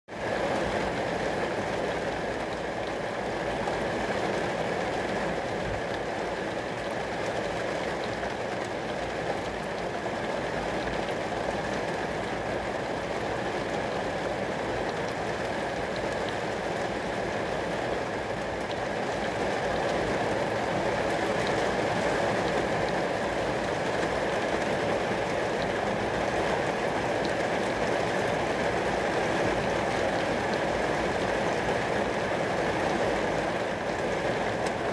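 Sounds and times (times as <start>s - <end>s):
rain on glass: 0.2s - 34.9s.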